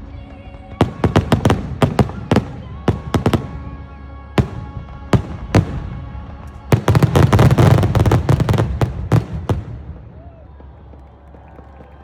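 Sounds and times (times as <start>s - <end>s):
fireworks booming and crackling: 0.6s - 11.6s.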